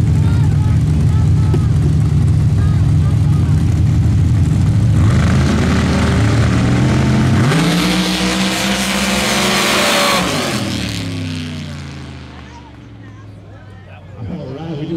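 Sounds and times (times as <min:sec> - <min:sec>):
trucks engines accelerating: 0:00.0 - 0:14.9.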